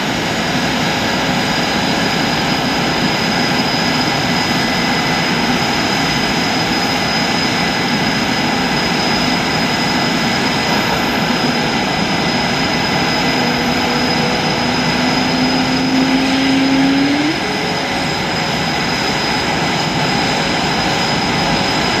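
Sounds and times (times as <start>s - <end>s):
jet engines rushing with high whine: 0.0s - 22.0s
low rising engine tone: 0.0s - 22.0s.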